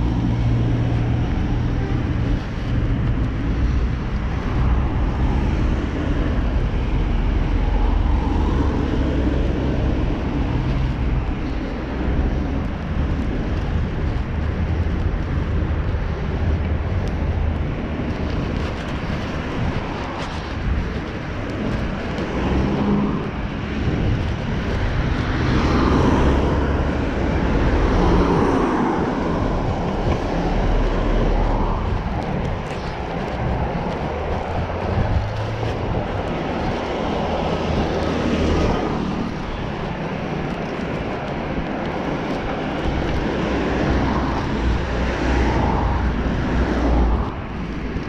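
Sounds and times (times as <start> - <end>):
road and tyre rumble: 0.0 - 48.0
wind on microphone: 0.0 - 48.0.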